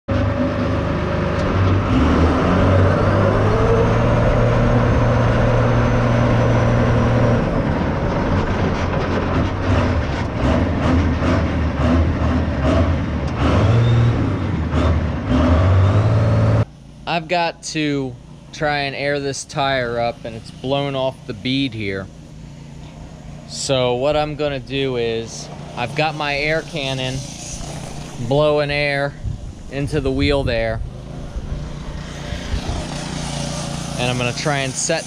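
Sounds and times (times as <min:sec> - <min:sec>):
truck engine running loudly: 0:00.1 - 0:35.0.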